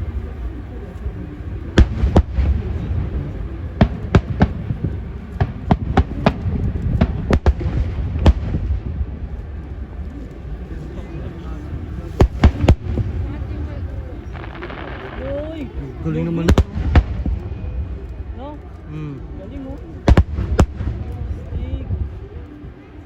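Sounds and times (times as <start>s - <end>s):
fireworks bangs: 0.0s - 9.7s, 11.5s - 18.6s, 20.0s - 22.2s
steady low rumble: 0.0s - 23.0s.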